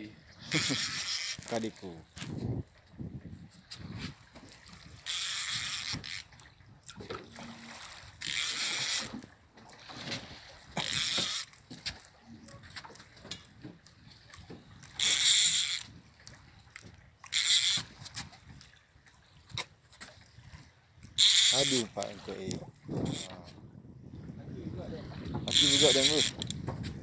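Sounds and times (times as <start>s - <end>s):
water splashing against boat hull: 0.0s - 27.0s.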